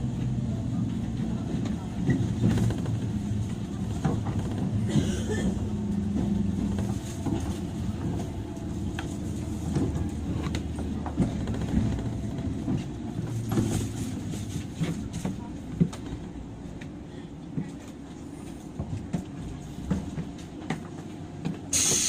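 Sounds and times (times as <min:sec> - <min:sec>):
train motor hum: 0:00.0 - 0:22.0
train wheels rumbling: 0:00.0 - 0:22.0.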